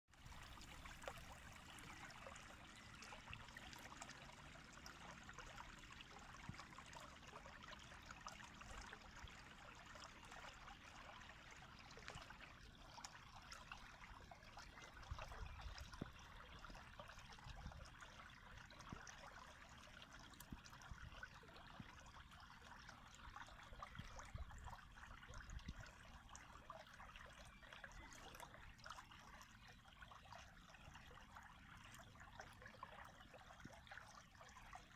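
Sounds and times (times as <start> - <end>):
water trickling: 0.1 - 34.9.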